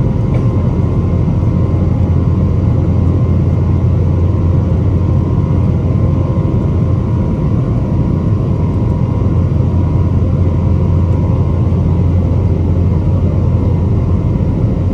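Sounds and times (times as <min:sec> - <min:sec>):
jet engine cabin rumble: 0:00.0 - 0:14.9.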